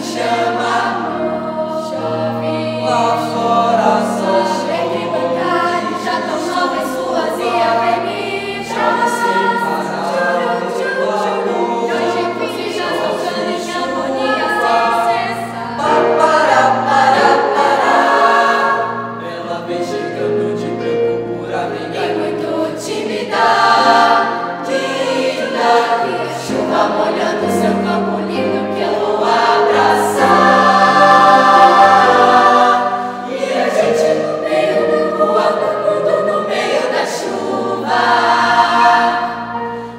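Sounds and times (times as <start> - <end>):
youth choir singing: 0.0 - 39.9.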